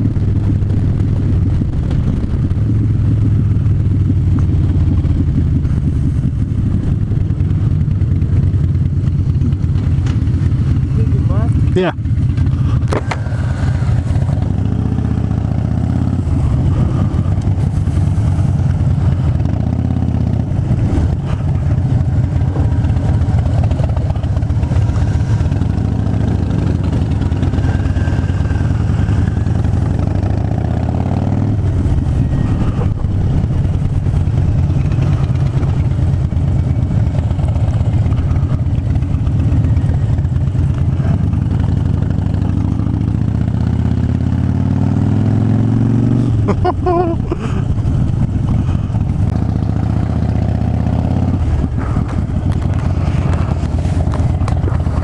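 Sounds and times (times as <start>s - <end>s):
wind rush: 0.0s - 41.9s, 47.2s - 55.0s
motorcycle engine running: 0.0s - 55.0s.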